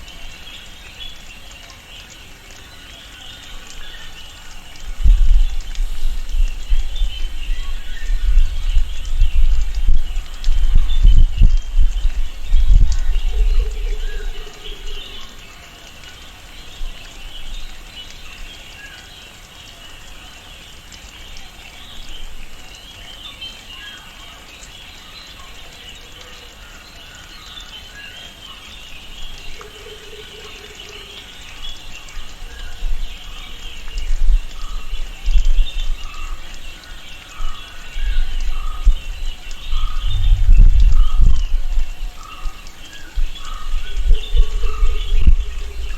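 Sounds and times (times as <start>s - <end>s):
birds and insects calling: 0.0s - 45.9s.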